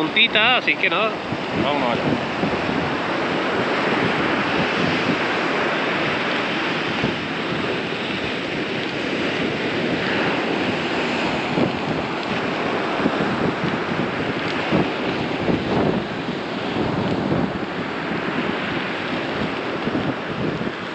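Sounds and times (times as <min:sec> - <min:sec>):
surf breaking on a beach: 0:00.0 - 0:20.9
wind buffeting the microphone: 0:00.0 - 0:20.9.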